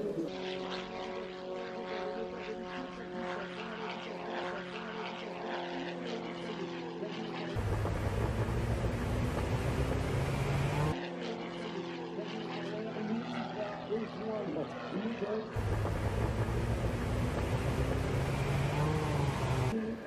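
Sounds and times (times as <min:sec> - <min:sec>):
engine noise inside cockpit: 0:00.0 - 0:19.9
propeller plane droning: 0:00.0 - 0:20.0.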